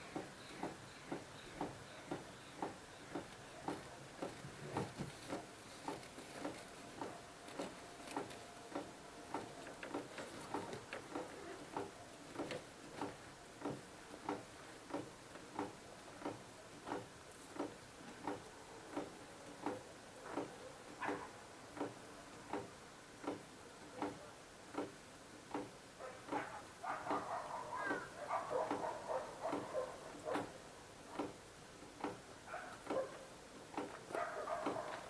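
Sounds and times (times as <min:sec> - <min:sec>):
faint regular clicking: 0:00.0 - 0:35.0.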